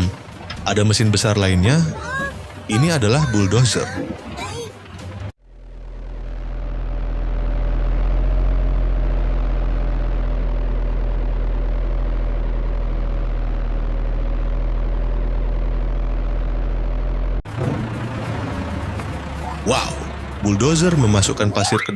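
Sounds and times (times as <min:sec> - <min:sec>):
diesel engine running: 0:00.0 - 0:21.9.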